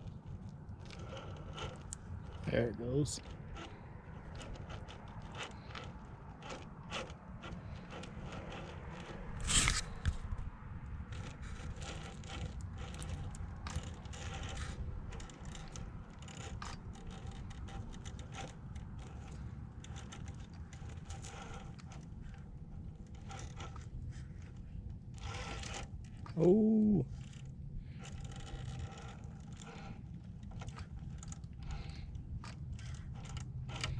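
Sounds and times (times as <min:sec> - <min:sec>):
toy car drivetrain gears: 0:00.0 - 0:33.9
tyres scraping and clicking: 0:00.0 - 0:33.9.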